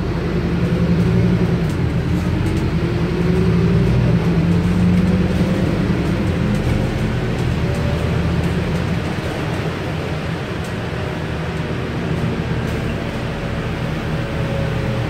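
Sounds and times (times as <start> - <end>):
bus diesel engine hum: 0.0 - 15.0
road noise: 0.0 - 15.0.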